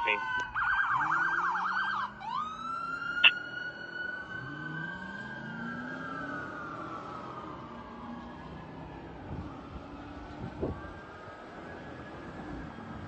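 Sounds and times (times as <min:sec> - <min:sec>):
fire engine siren: 0:00.0 - 0:13.0.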